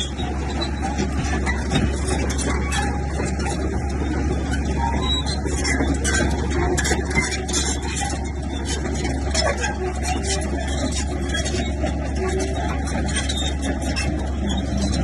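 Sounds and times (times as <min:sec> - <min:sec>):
bulldozer diesel engine running: 0:00.0 - 0:15.0
metallic clanking and rattling: 0:00.0 - 0:15.0.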